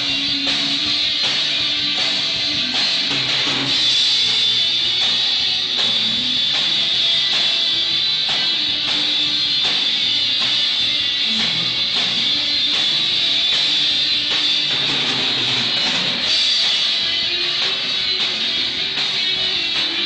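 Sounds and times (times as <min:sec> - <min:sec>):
drum kit hits: 0:00.0 - 0:20.0
strummed electric guitar: 0:00.0 - 0:20.0.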